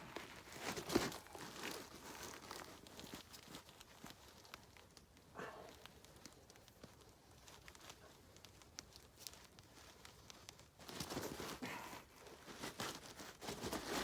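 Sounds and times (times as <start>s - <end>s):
rustling and scraping: 0.0s - 14.0s.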